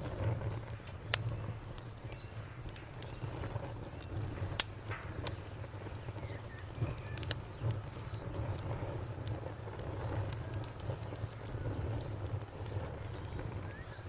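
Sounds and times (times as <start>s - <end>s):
cricket chirping: 0.0s - 14.0s
wood fire crackling and popping: 0.0s - 14.0s.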